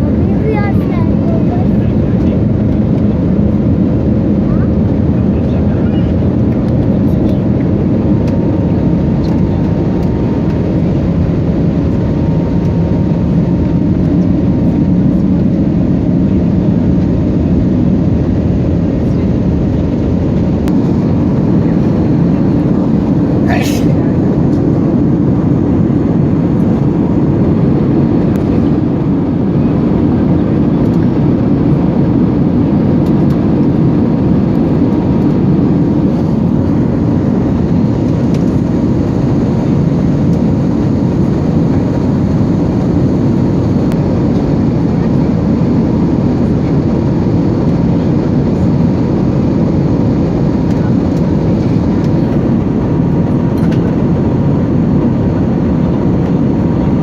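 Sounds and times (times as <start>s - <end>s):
jet cabin engine roar: 0.0s - 57.0s.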